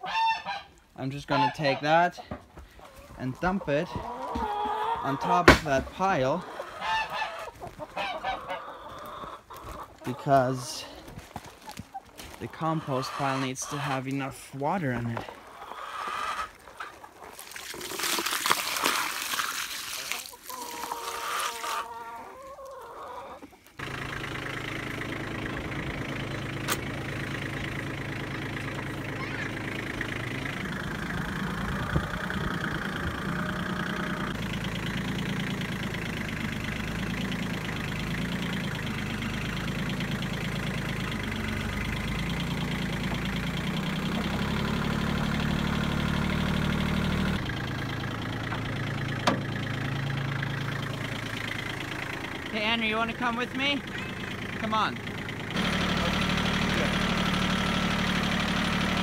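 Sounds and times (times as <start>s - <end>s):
tractor engine running: 0.8s - 17.1s, 23.4s - 59.0s.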